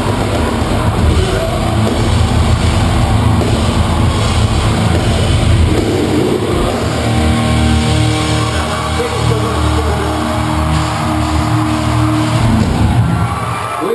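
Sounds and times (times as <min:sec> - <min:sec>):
distorted electric guitars: 0:00.0 - 0:13.9
metalcore band playing: 0:00.0 - 0:13.9.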